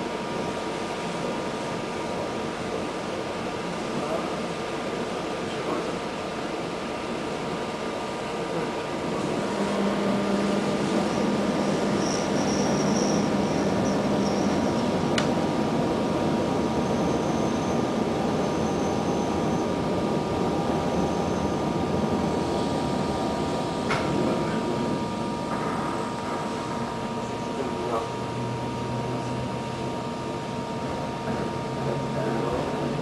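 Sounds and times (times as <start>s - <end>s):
train car rumbling on rails: 0.0s - 33.0s.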